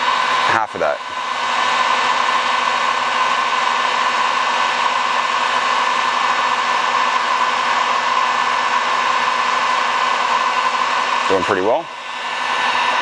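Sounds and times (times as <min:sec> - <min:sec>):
heat gun fan whine: 0:00.0 - 0:13.0.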